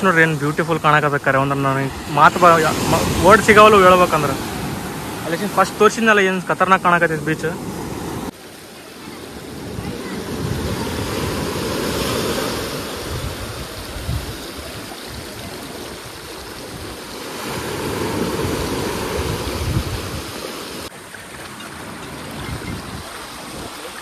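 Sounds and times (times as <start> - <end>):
small waves washing on beach: 0.0 - 24.0.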